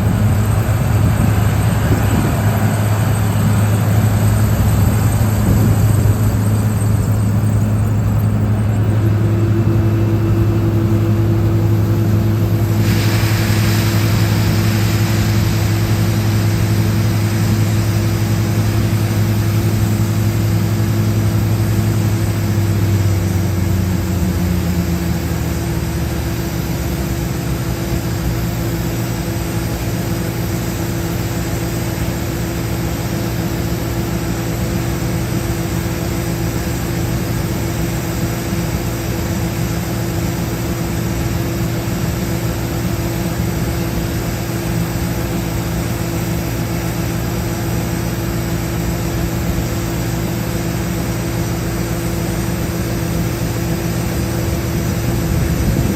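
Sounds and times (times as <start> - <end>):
combine harvester engine drone: 0.0 - 55.9.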